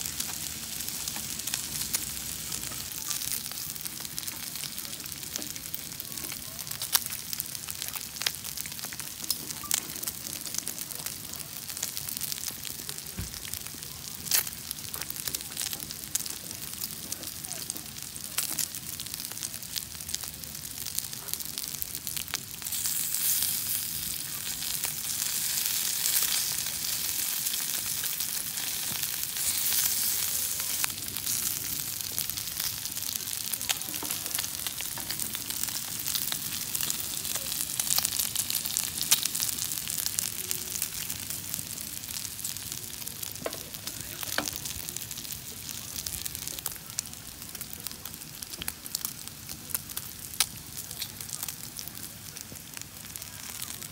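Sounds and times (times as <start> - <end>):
chicken sizzling on a griddle: 0.0 - 53.9.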